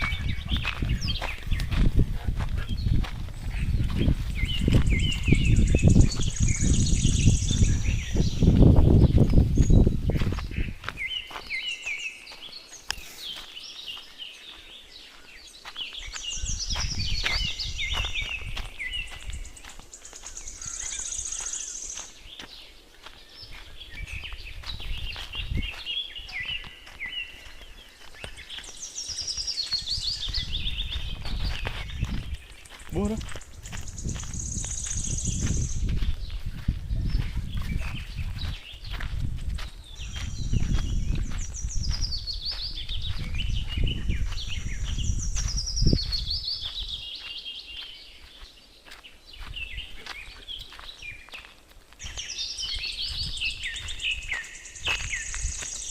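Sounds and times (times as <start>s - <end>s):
birds chirping in trills: 0.0s - 55.9s.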